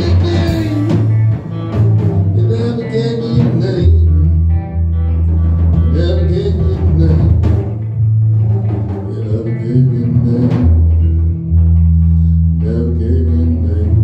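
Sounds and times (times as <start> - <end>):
drum kit: 0.0 - 12.2
electric bass low notes: 0.0 - 14.0
electric guitar: 0.0 - 14.0.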